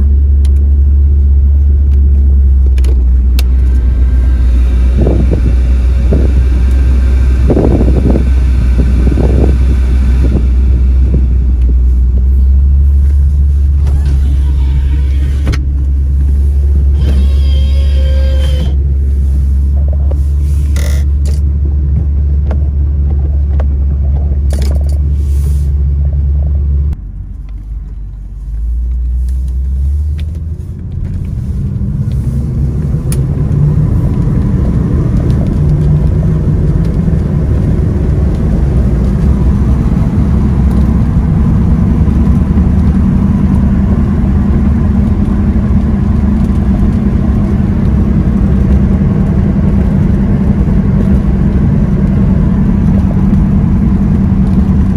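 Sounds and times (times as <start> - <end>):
car engine rumbling: 0.0 - 54.9.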